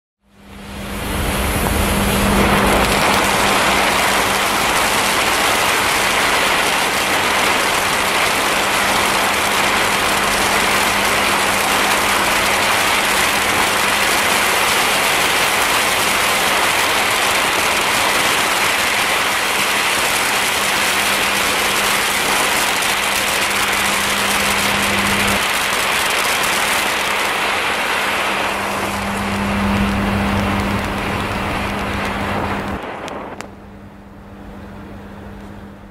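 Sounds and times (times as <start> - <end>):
firework fountains hissing: 0.4 - 33.5.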